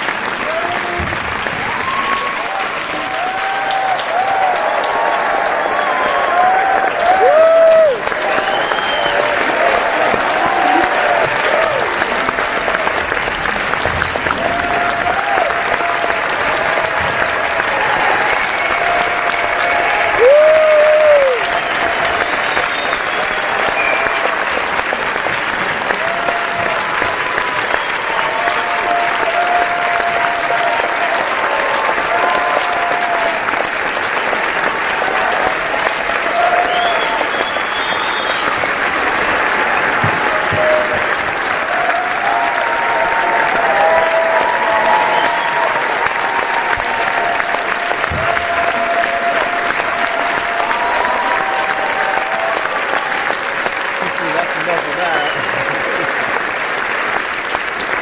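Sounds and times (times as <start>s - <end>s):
crowd applauding: 0.0s - 58.0s.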